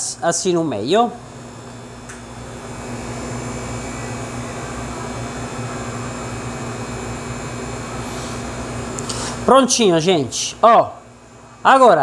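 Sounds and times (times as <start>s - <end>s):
fan-driven machine whirring: 0.0s - 12.0s.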